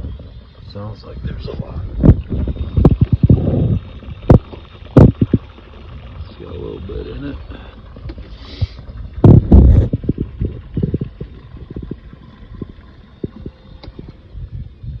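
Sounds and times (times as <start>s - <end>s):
bilge pump gurgling water: 0.0s - 15.0s.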